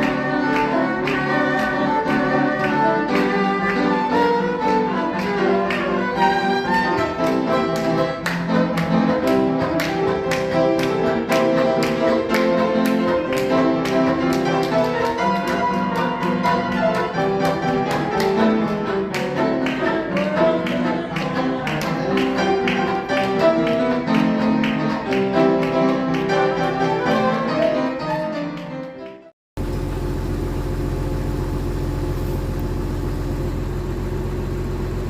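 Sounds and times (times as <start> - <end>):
instrumental music with beat: 0.0 - 29.3.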